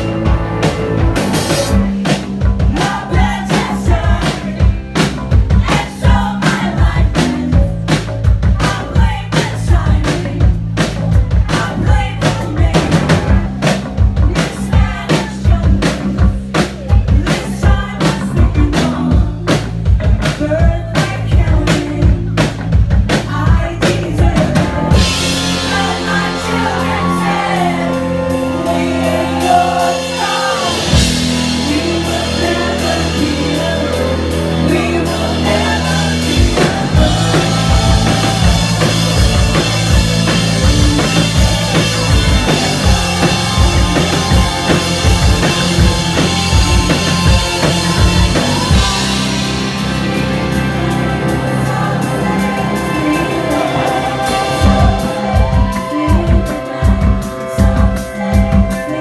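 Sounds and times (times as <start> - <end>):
drum-kit beat: 0.0 - 59.0
live band music: 0.0 - 59.0
person singing: 1.5 - 59.0.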